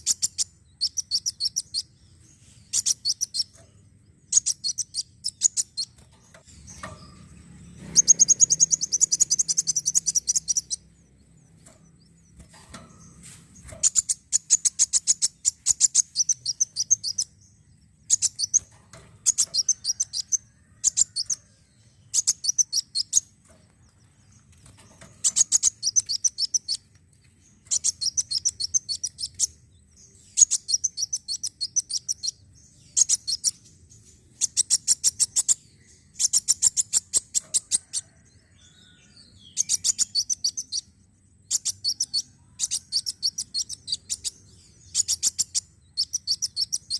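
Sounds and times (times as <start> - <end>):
sunbird high-pitched chittering: 0.0 - 46.9.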